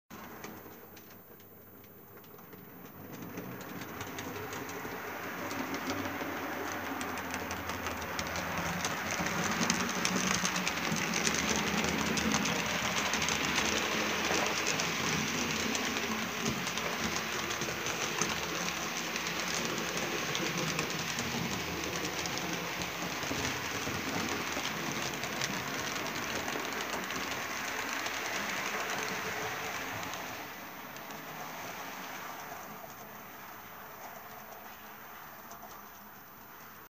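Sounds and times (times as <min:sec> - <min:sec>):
wheels clicking on rails: 0:00.1 - 0:36.9
model train rolling rattle: 0:00.2 - 0:36.9.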